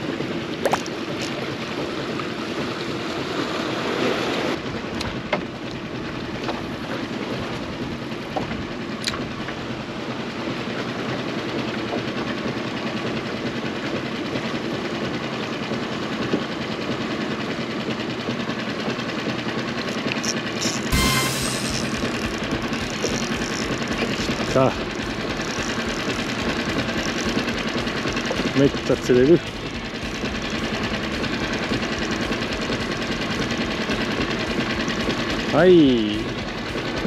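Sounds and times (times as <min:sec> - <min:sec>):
rushing noise on boat: 0:00.0 - 0:37.0.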